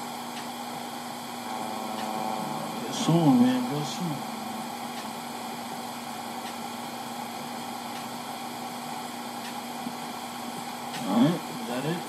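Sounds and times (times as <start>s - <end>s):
low even hum: 0.0s - 12.0s
steady hiss: 0.0s - 12.0s.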